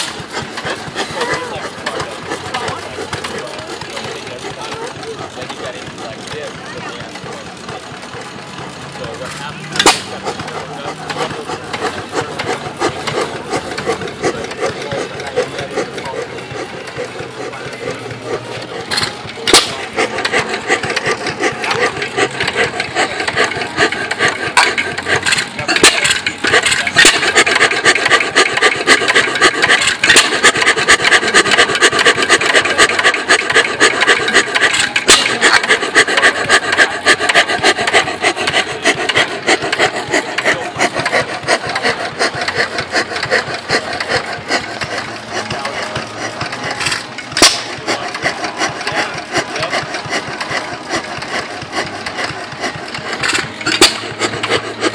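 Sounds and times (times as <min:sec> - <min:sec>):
engine mechanical clatter: 0:00.0 - 0:54.9.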